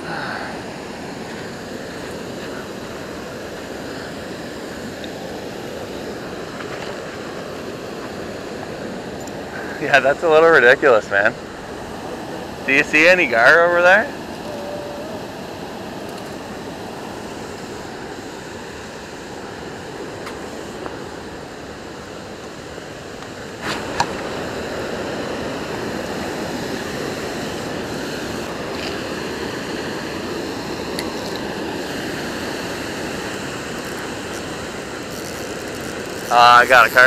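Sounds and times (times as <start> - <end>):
water rushing over weir: 0.0 - 37.0.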